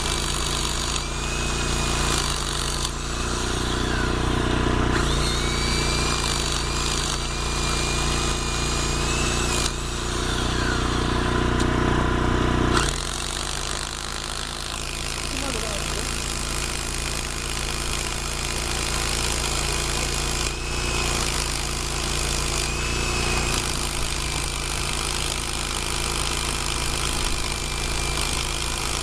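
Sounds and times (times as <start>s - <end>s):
hammer drill boring into concrete: 0.0s - 12.0s, 12.7s - 29.0s.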